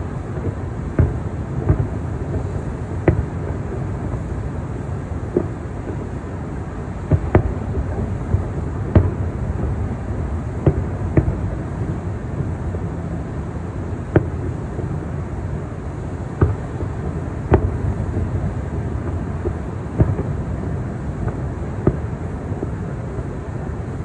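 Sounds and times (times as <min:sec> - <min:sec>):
distant fireworks bangs: 0:00.0 - 0:13.2, 0:13.9 - 0:15.6, 0:16.2 - 0:23.5
wind: 0:00.0 - 0:24.0.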